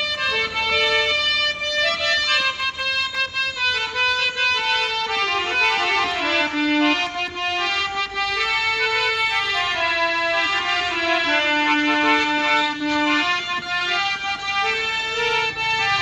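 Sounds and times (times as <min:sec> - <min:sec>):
electronic harmonium melody: 0:00.0 - 0:16.0.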